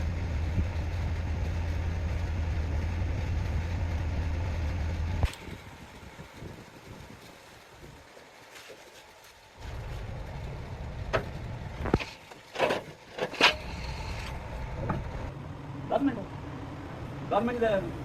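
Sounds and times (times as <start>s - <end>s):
motor rumbling: 0.0s - 8.1s, 9.5s - 12.5s, 13.5s - 18.0s.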